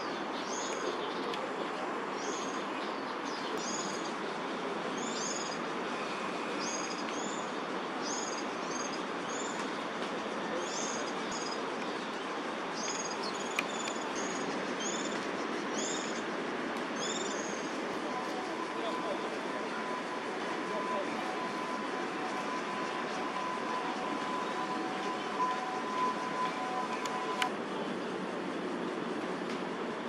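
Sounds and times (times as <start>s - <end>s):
steady rushing noise: 5.6s - 30.0s.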